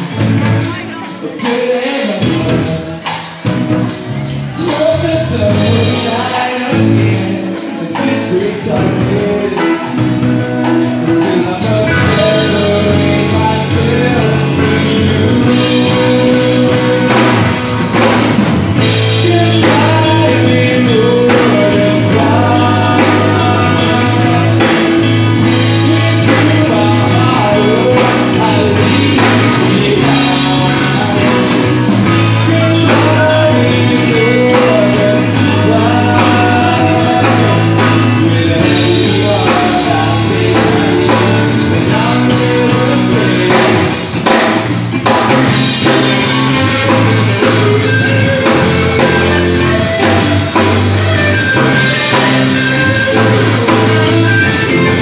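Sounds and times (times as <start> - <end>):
lead vocal singing: 0.0 - 55.0
live rock band playing: 0.0 - 55.0.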